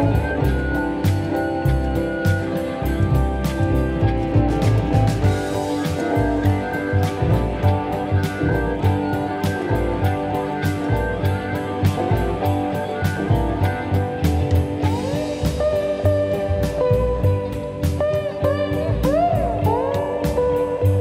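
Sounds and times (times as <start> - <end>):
bass: 0.0 - 21.0
electric guitar: 0.0 - 21.0
sliding guitar note: 0.0 - 21.0
steady drum beat: 0.0 - 21.0.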